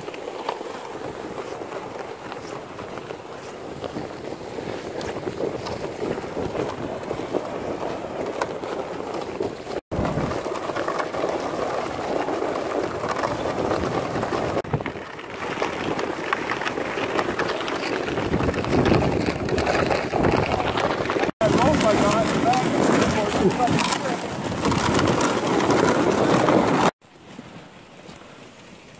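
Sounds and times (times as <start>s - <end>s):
footsteps crunching on snow: 0.0s - 27.0s
plastic sleds scraping over ice: 0.0s - 28.9s
wind on microphone: 0.8s - 26.9s.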